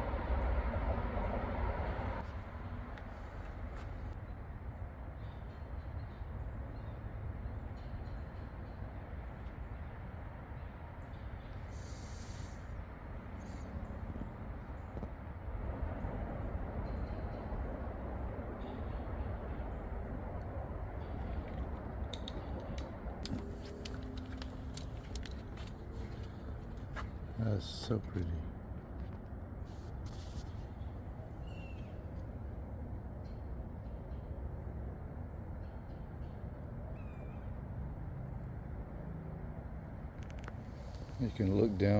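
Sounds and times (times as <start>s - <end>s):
highway traffic rumble: 0.0s - 41.9s.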